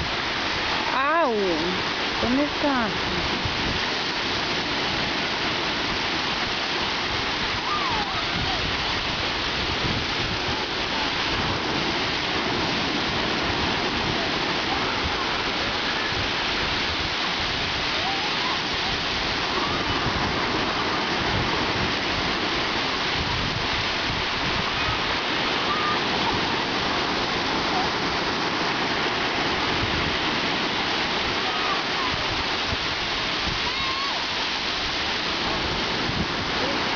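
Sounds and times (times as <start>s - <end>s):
sea surf washing: 0.0s - 36.9s.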